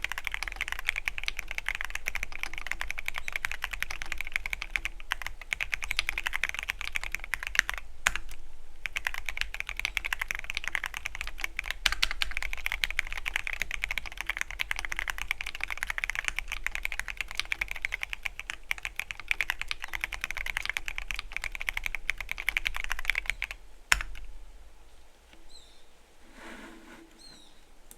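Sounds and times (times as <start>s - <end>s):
mechanical keyboard typing: 0.0s - 24.3s.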